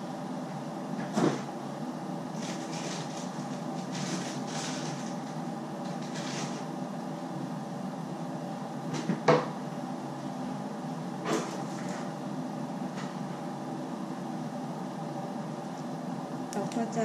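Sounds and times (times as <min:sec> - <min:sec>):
kitchen appliance hum: 0:00.0 - 0:17.0.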